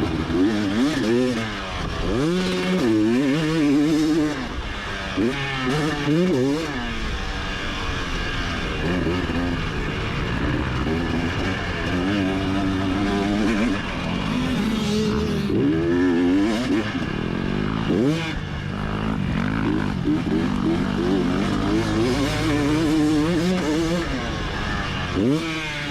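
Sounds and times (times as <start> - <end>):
motocross bike engine revving: 0.0 - 25.9.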